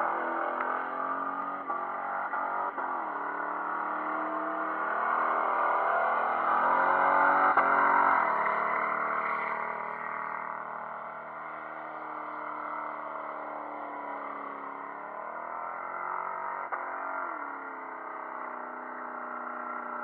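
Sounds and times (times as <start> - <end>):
car engine revving high: 0.0 - 20.0.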